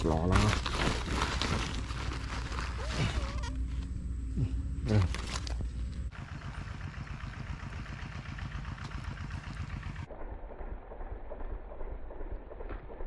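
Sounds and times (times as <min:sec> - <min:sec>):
small engine running: 0:01.1 - 0:13.0.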